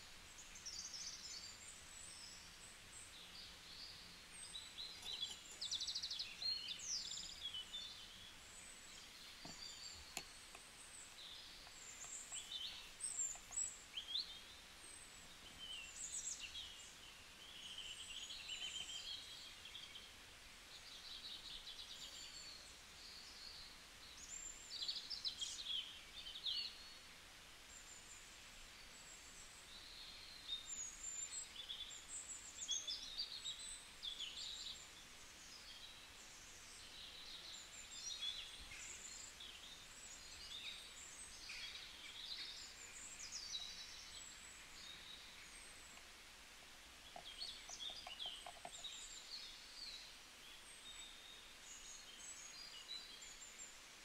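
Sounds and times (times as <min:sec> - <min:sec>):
faint steady hiss: 0:00.0 - 0:54.0
small birds chirping and singing: 0:00.0 - 0:54.0.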